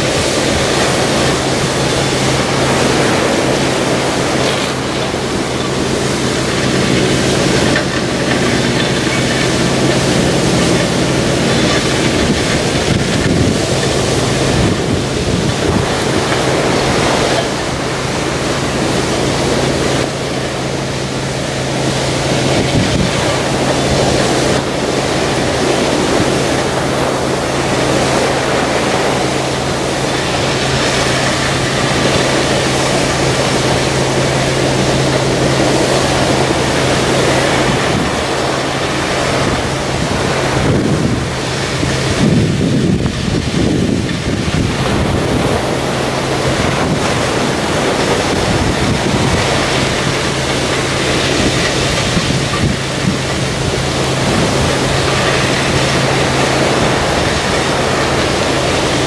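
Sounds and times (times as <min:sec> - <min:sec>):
low drone of dredger pump: 0:00.0 - 0:59.0
surf washing onto shingle: 0:00.0 - 0:59.0
wind buffeting microphone: 0:00.0 - 0:59.0.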